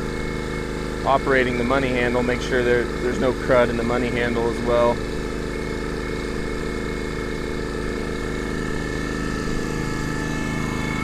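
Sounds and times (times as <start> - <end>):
high whine: 0.0 - 11.0
water pump droning: 0.0 - 11.0.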